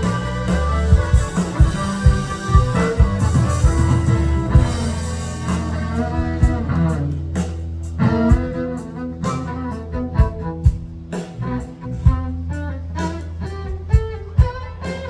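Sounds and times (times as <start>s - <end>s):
bass: 0.0s - 15.0s
fiddle lines: 0.0s - 15.0s
guitar: 0.0s - 15.0s.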